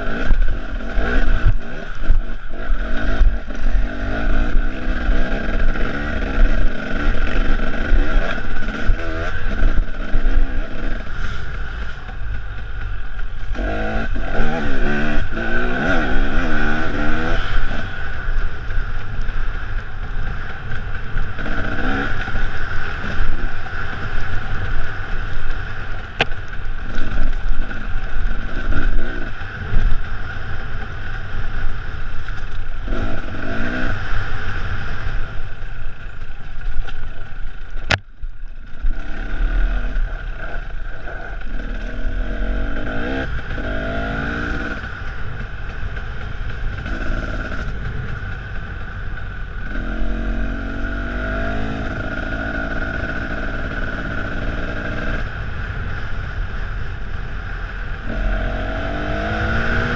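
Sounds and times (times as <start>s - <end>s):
dirt bike engine revving: 0.0s - 25.9s, 32.8s - 35.4s, 38.6s - 56.3s, 57.4s - 59.9s
wind: 0.0s - 59.9s.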